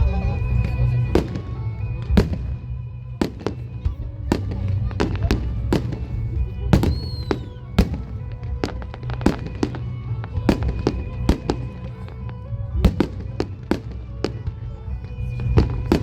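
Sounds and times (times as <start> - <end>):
fireworks bursting: 0.0 - 16.0
music: 0.0 - 16.0.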